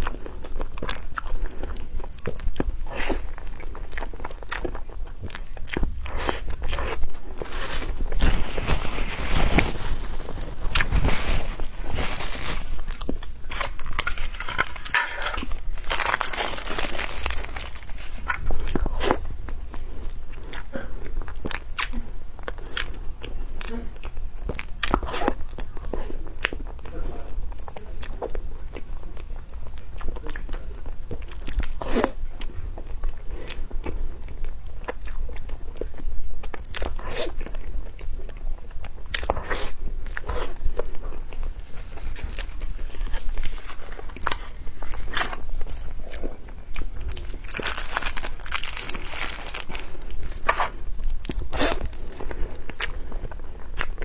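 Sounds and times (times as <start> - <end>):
person chewing crunchy food: 0.0 - 26.7, 33.1 - 54.0.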